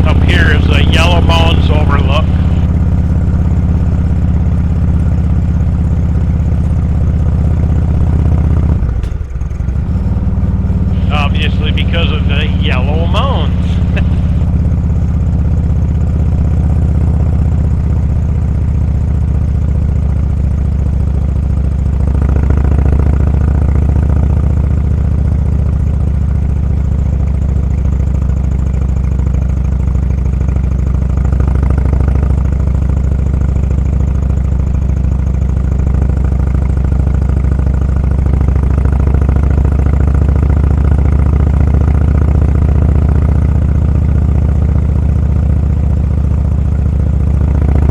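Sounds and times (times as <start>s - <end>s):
motorcycle engine drone: 0.0s - 47.9s.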